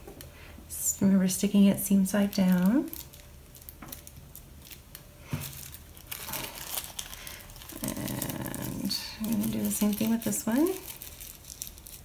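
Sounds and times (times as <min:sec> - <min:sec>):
tissue paper crinkling: 0:02.0 - 0:12.0.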